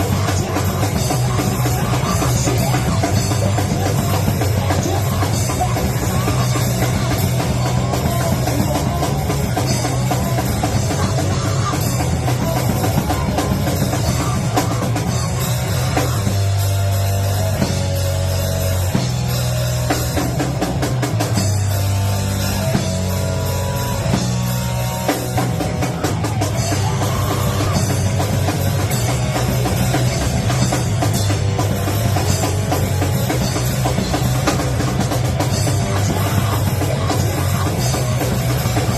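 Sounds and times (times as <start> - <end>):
drum kit pounding: 0.0 - 38.9
heavy rock band playing: 0.0 - 38.9.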